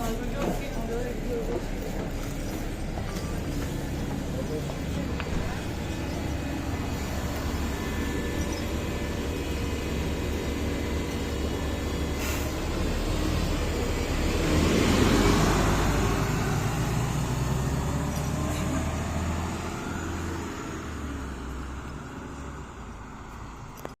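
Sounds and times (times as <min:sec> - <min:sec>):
bus engine humming: 0:00.0 - 0:24.0.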